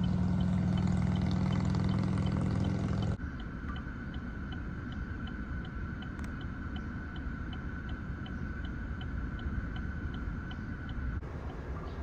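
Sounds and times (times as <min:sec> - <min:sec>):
faint regular ticking: 0:00.0 - 0:02.4, 0:03.0 - 0:12.0
steady high whine: 0:02.3 - 0:12.0.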